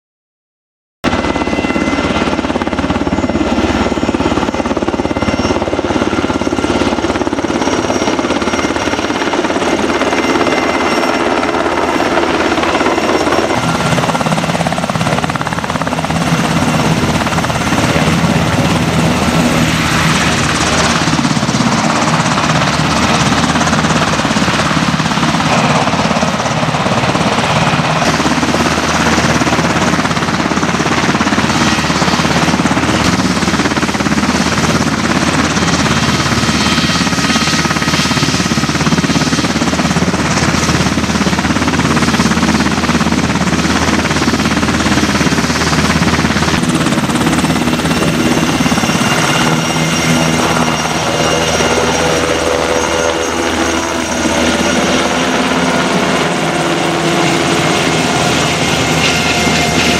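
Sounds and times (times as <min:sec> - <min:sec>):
helicopter engines and rotors: 0:01.0 - 0:59.9.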